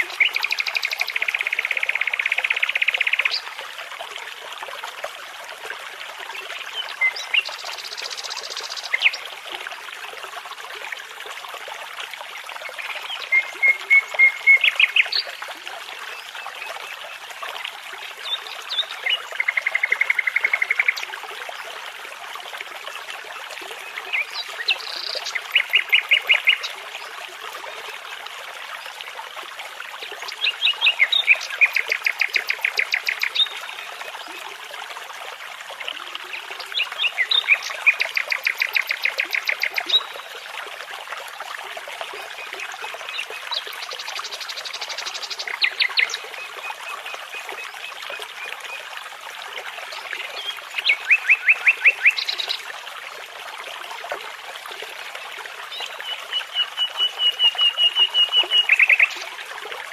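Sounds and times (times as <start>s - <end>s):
babbling brook: 0.0s - 59.9s.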